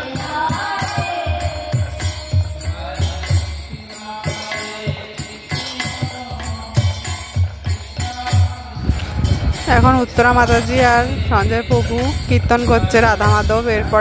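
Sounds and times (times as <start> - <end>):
drum beating steady rhythm: 0.0 - 14.0
hand cymbals clashing: 0.0 - 14.0
voices chanting: 0.0 - 14.0.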